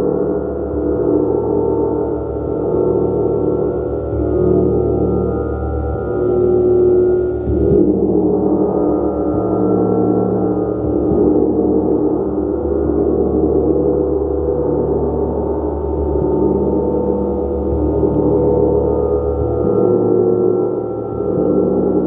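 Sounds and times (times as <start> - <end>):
large gong strokes: 0.0 - 22.0.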